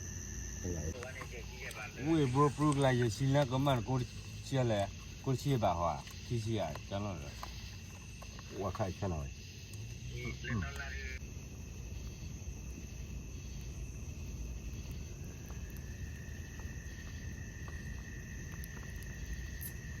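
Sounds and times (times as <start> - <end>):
insects calling with high tones: 0.0 - 20.0.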